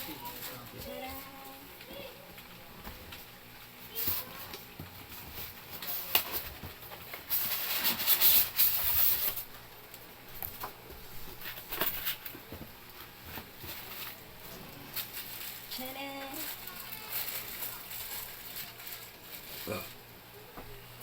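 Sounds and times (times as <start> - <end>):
rustling and handling noises: 0.0 - 21.0.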